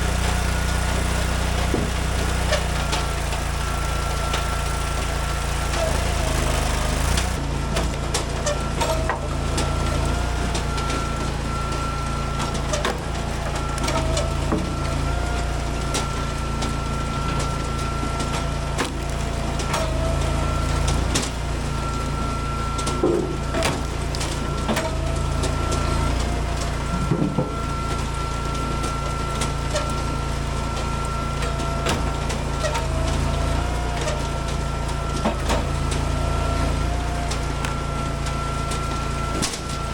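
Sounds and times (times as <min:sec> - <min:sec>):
wood cracking and splitting: 0:00.0 - 0:39.9
wood splitter whining: 0:00.0 - 0:39.9.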